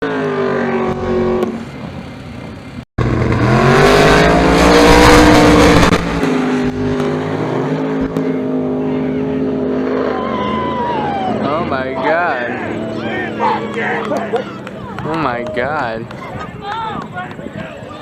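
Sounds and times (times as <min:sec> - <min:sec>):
race car engines at full throttle: 0:00.0 - 0:18.0.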